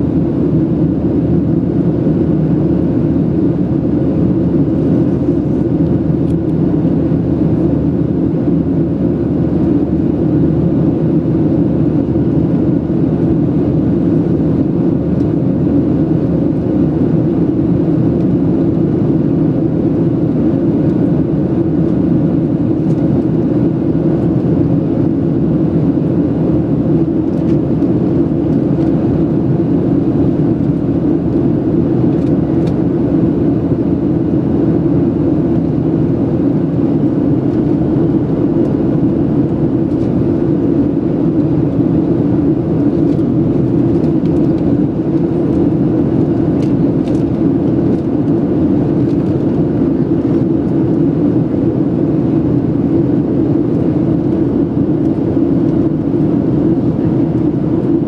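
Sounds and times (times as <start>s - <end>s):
jet engine roar in cabin: 0.0s - 58.0s.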